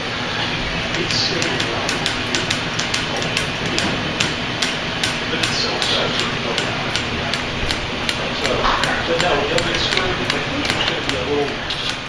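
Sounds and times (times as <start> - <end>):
fan whoosh: 0.0 - 12.0
ceiling fan knocking: 0.8 - 12.0.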